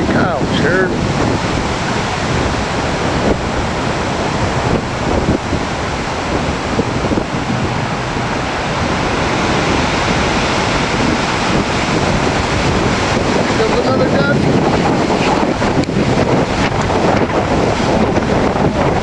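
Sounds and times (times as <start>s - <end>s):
strong wind through pine trees: 0.0s - 19.0s
wind buffeting microphone: 0.0s - 19.0s.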